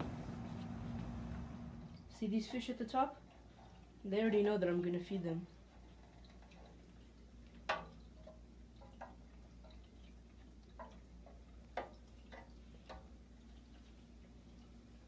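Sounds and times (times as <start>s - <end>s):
water dripping: 1.9s - 15.0s.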